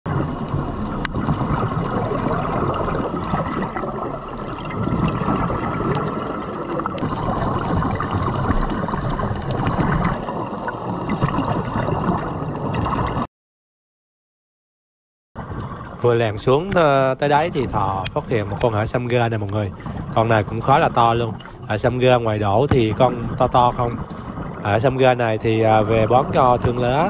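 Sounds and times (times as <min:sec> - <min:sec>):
water washing and gurgling: 0:00.1 - 0:13.3, 0:15.4 - 0:27.0.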